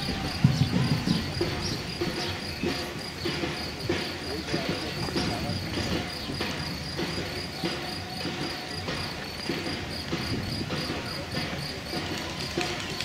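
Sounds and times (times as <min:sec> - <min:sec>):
runners' footsteps on asphalt: 0:00.0 - 0:13.0.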